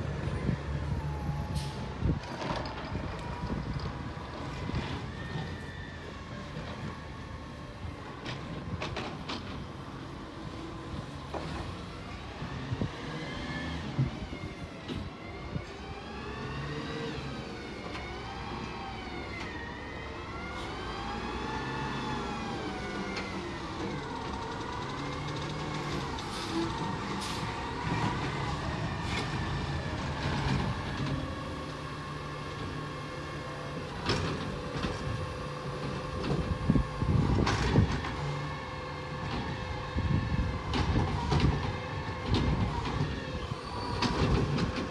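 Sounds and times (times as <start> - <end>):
garbage truck engine: 0.0 - 44.9.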